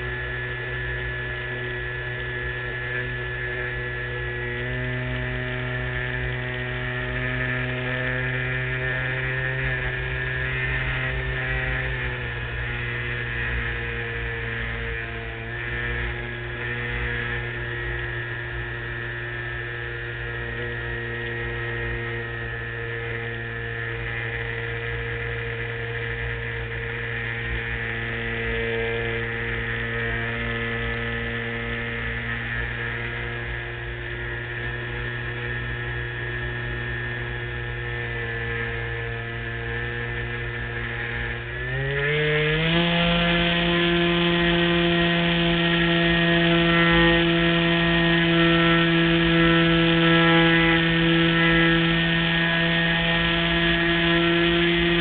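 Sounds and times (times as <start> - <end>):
model airplane motor droning: 0.0 - 55.0.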